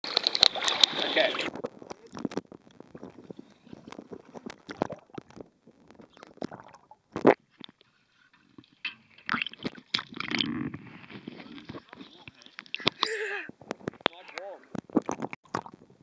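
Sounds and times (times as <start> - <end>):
water gurgling: 0.0 - 16.0.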